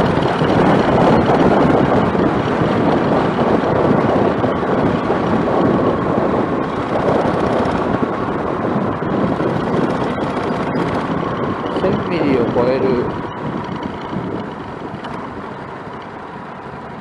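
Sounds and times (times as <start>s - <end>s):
motorcycle road and engine noise: 0.0s - 17.0s
wind buffeting microphone: 0.0s - 17.0s.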